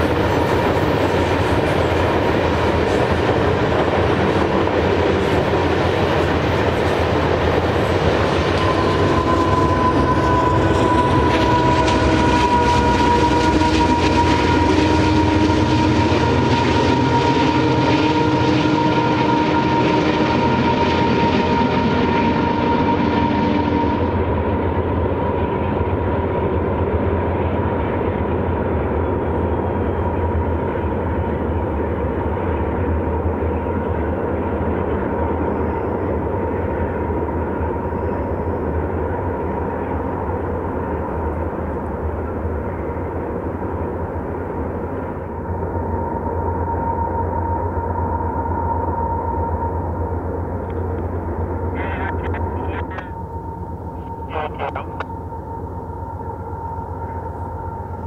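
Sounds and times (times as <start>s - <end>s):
diesel locomotive engine drone: 0.0s - 58.0s
steady whine: 0.0s - 58.0s.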